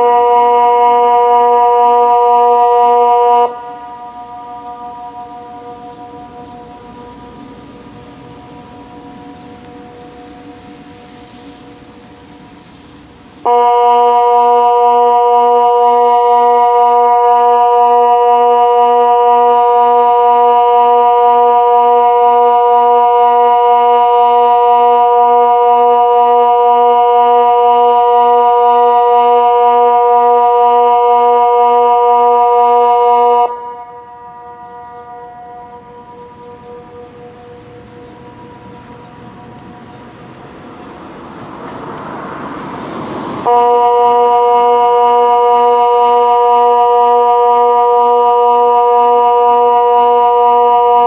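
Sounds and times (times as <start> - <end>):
electronic siren steady tone: 0.0 - 51.0.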